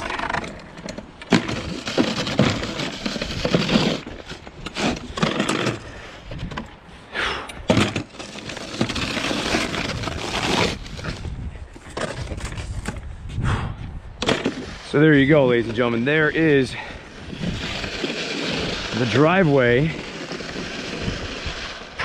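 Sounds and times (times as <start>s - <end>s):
snow pusher scraping concrete: 0.0s - 6.2s, 7.3s - 12.8s, 14.2s - 22.0s.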